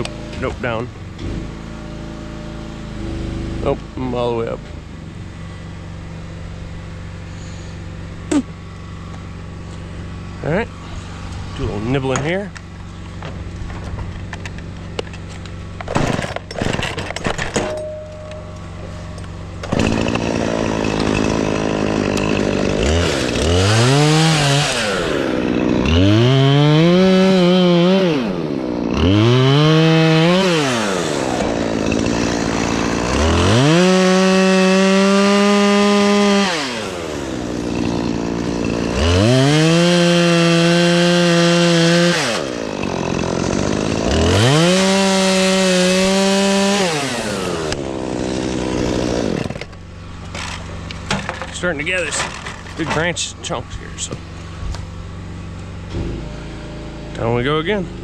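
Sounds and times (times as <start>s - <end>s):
chainsaw cutting and idling: 0.0s - 4.6s, 5.7s - 18.0s, 18.6s - 58.0s.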